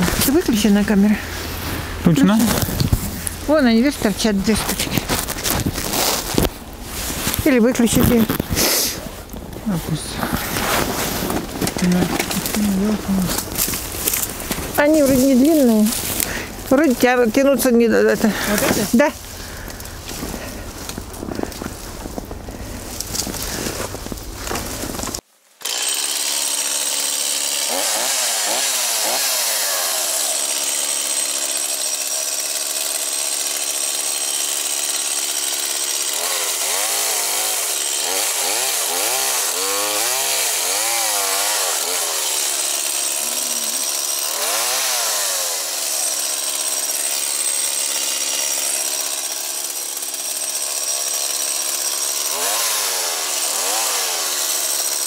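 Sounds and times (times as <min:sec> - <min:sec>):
chainsaw cutting wood: 0:00.0 - 0:09.4, 0:10.2 - 0:55.0.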